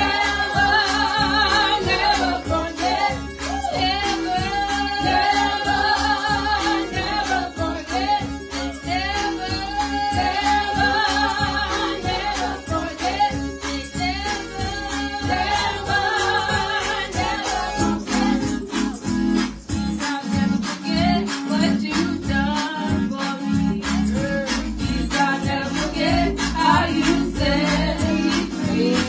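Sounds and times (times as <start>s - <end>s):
women singing gospel song: 0.0s - 19.2s, 19.8s - 29.0s
musical accompaniment with beat: 0.0s - 29.0s.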